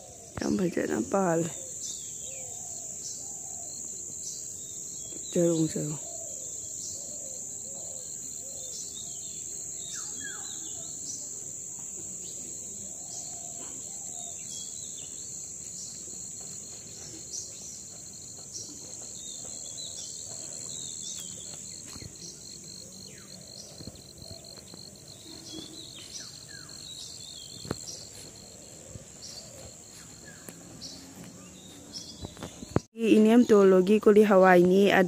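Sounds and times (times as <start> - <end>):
bird chirps: 0.0 - 11.3, 12.2 - 33.6
insects droning: 0.0 - 35.0.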